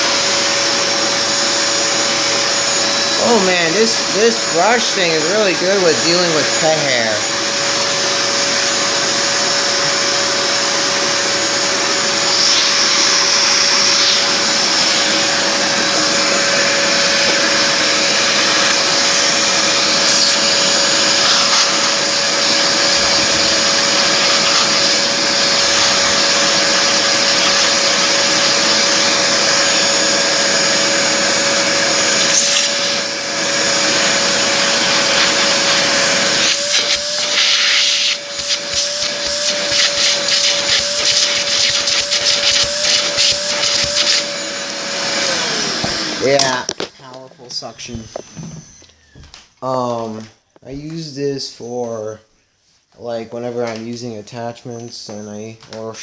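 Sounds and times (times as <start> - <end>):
hand vacuum running: 0.0 - 46.8, 47.6 - 49.8.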